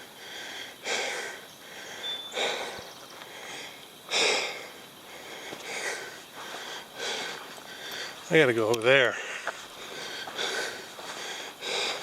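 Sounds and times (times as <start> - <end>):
man breathing heavily: 0.0 - 8.3, 9.0 - 12.0.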